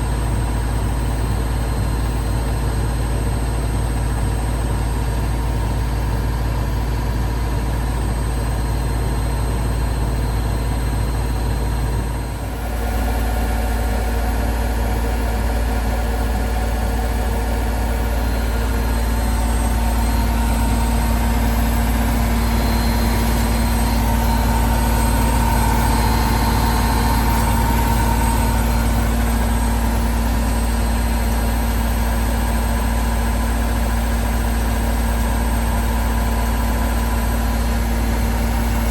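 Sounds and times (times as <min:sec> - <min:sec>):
high motor whine: 0:00.0 - 0:38.9
washing machine drone: 0:00.0 - 0:38.9.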